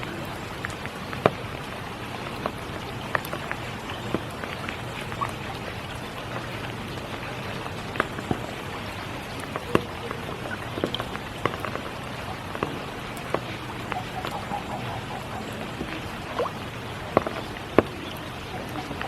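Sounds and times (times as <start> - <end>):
rain drops striking close by: 0.0 - 19.0
steady rain: 0.0 - 19.0.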